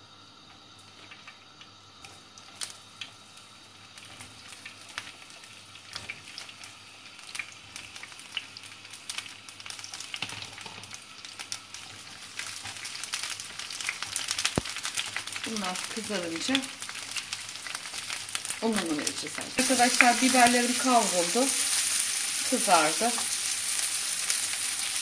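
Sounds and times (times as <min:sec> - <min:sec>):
peppers sizzling in frying pan: 0:00.0 - 0:25.0.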